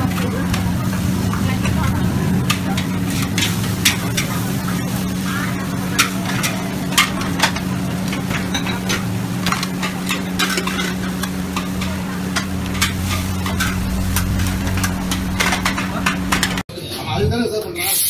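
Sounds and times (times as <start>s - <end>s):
food sizzling in oil: 0.0s - 16.6s
steady low hum: 0.0s - 16.6s.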